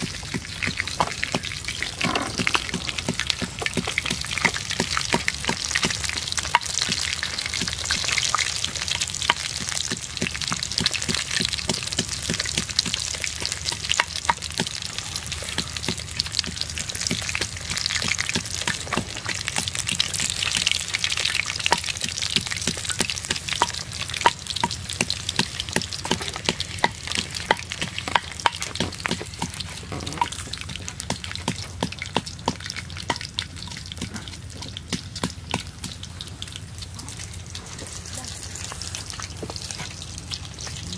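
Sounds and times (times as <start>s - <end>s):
fish frying in hot oil: 0.0s - 40.9s.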